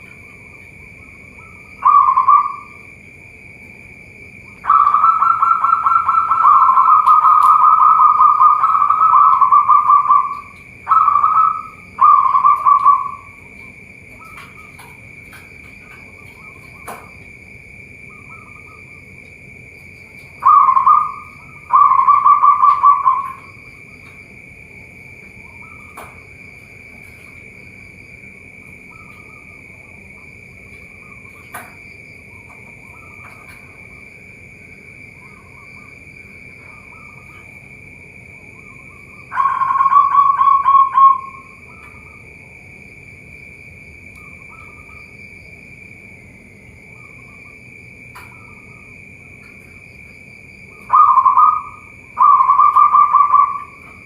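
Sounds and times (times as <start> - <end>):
doves cooing: 0.0 - 3.5, 4.3 - 42.8, 46.2 - 54.0
high-pitched insect drone: 0.0 - 54.0.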